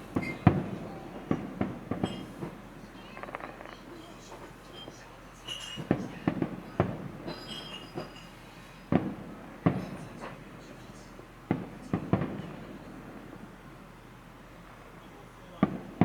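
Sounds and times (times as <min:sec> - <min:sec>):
firework shells booming: 0:00.0 - 0:16.0.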